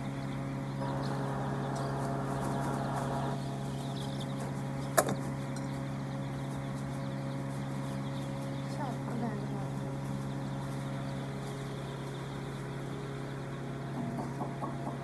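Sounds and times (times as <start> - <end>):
chicks peeping: 0.0 - 15.0
mechanical hum: 0.0 - 15.0.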